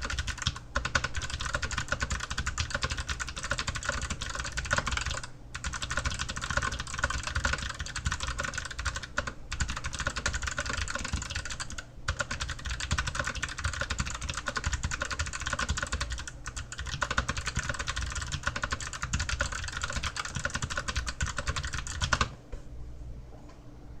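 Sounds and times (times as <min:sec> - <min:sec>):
fast clicky keyboard typing: 0:00.0 - 0:22.3.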